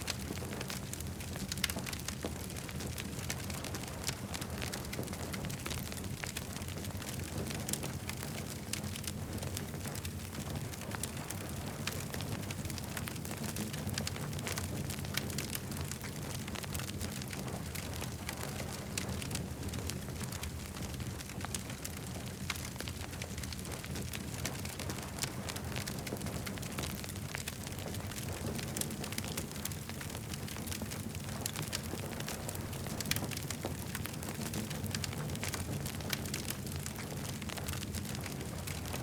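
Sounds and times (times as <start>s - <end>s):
campfire crackling and popping: 0.0s - 39.0s
low rumble of flames: 0.0s - 39.0s.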